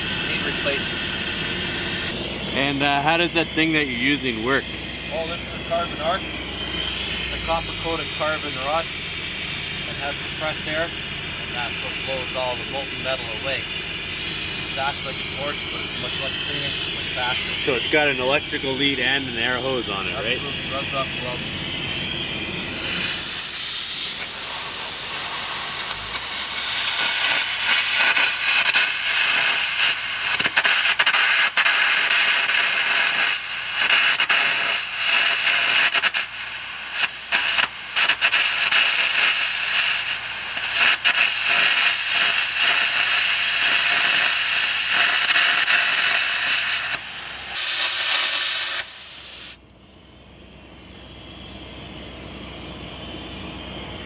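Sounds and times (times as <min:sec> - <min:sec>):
arc gouging rough hiss: 0:00.0 - 0:49.6.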